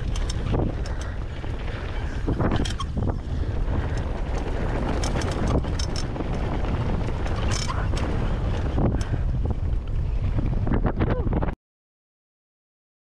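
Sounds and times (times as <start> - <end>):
bike rattling and clacking: 0.0 - 11.6
wind rushing over microphone: 0.0 - 11.6.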